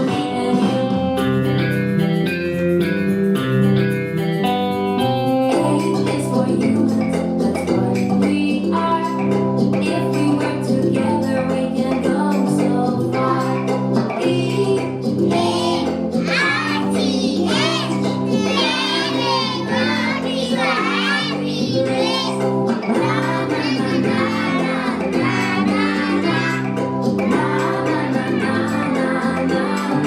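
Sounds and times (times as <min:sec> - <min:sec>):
song with singing and instruments: 0:00.0 - 0:30.0.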